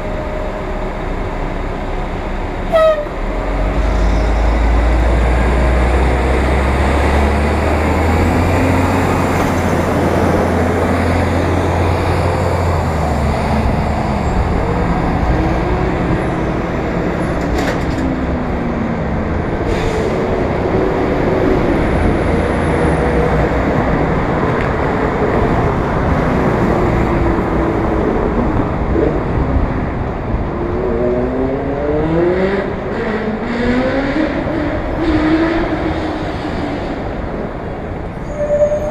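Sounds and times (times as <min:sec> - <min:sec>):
bus engine rumble: 0:00.0 - 0:31.8, 0:32.6 - 0:38.9
passing vehicle engines: 0:00.0 - 0:38.9
wind and road noise: 0:00.0 - 0:38.9.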